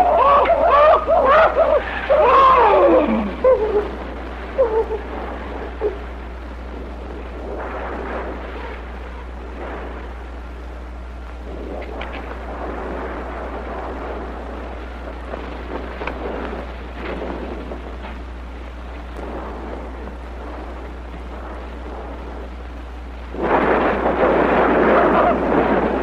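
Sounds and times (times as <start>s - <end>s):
rolling thunder: 0.0s - 26.0s
rushing rain: 0.0s - 26.0s
wind: 0.0s - 26.0s.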